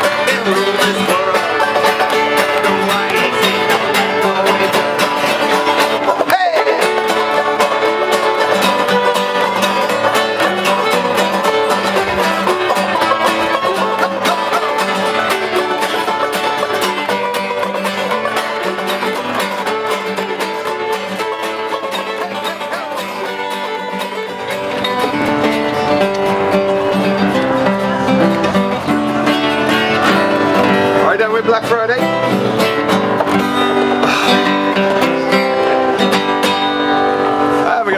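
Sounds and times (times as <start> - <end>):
acoustic string-band music: 0.0 - 37.9.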